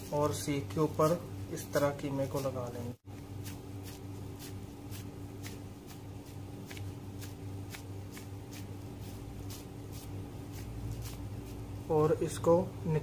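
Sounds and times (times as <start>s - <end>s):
plastic glove rustling: 0.0s - 12.6s
steady low hum: 0.0s - 13.0s.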